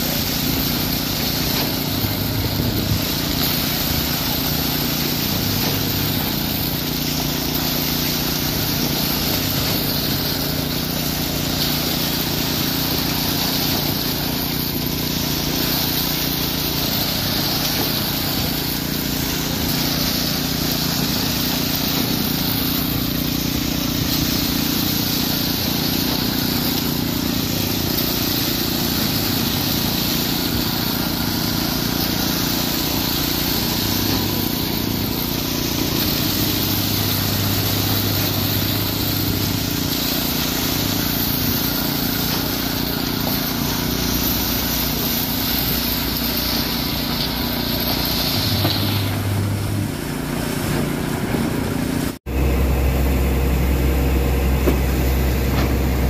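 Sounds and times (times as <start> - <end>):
concrete poker vibrator engine: 0.0 - 56.0
concrete pump engine: 0.0 - 56.0.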